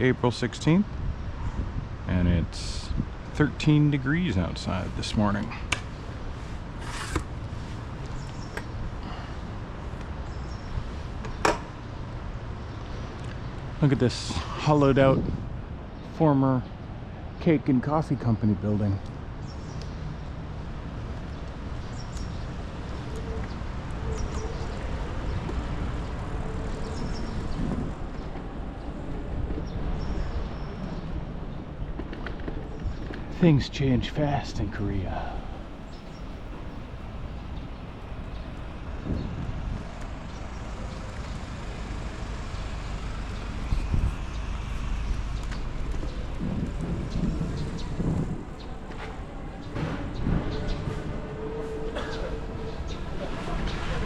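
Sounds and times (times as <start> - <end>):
rushing wind: 0.0 - 18.0, 19.1 - 54.0
bicycle rolling noise: 1.0 - 14.2, 19.4 - 34.0, 34.7 - 51.0.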